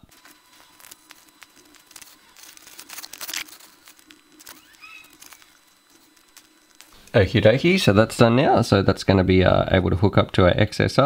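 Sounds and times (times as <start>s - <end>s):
soldering clicks and crackling: 0.0s - 9.4s
faint steady hum: 0.0s - 11.0s.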